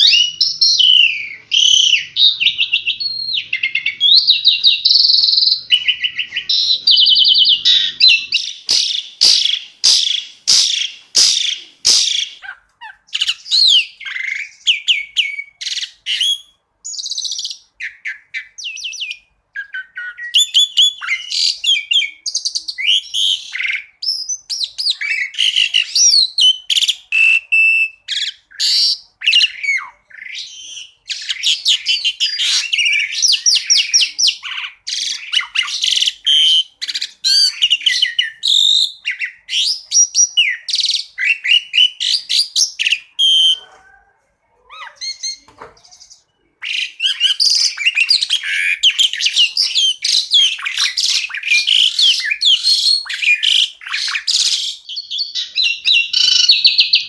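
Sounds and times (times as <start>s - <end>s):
starling singing: 0.0s - 44.0s, 44.6s - 57.0s.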